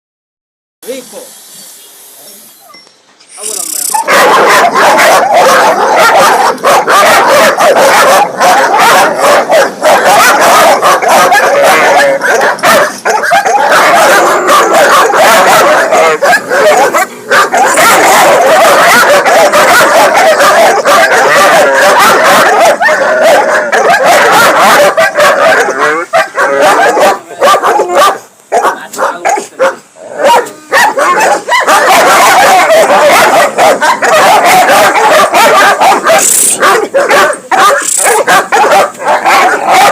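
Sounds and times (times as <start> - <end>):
dogs barking and yelping: 3.5 - 39.9.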